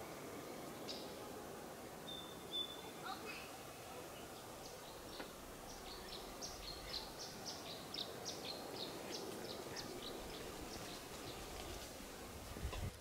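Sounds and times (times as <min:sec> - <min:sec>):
outdoor background hiss: 0:00.0 - 0:13.0
songbird chirping: 0:00.0 - 0:13.0.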